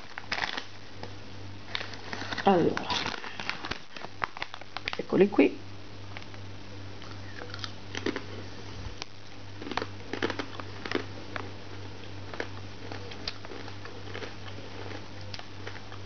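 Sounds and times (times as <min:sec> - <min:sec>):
crunching cracker: 0:00.0 - 0:05.1, 0:07.0 - 0:16.0
steady low hum: 0:00.0 - 0:16.0.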